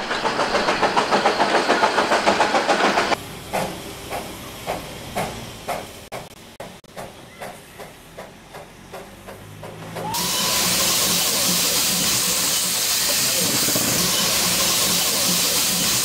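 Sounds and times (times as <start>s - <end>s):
loud steam hiss: 0.0s - 9.2s, 10.0s - 16.0s
steam locomotive exhaust beats: 0.0s - 16.0s.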